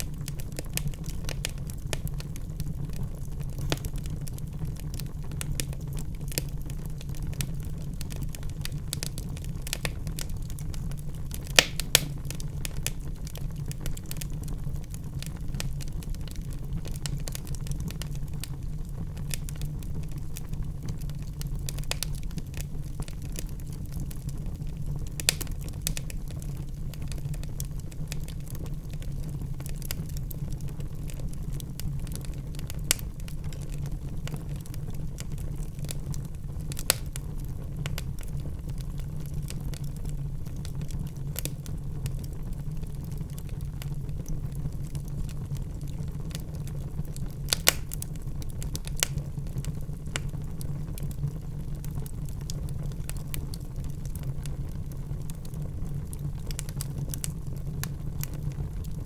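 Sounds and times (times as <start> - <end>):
loud pops from fire: 0.0 - 59.0
low rumble of flames: 0.0 - 59.0
wood fire crackling: 0.0 - 59.0.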